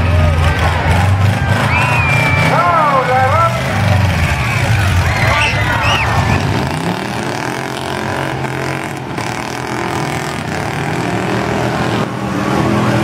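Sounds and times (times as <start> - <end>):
car engines droning: 0.0 - 13.0.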